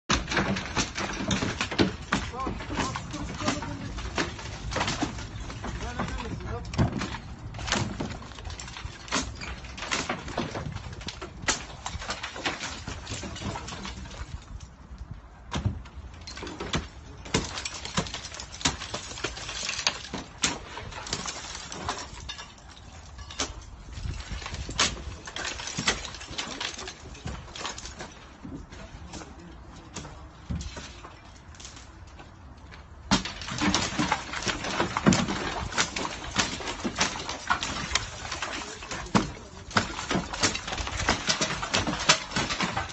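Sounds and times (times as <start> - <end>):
demolition knocks and bangs: 0.1 - 14.7, 15.5 - 42.9.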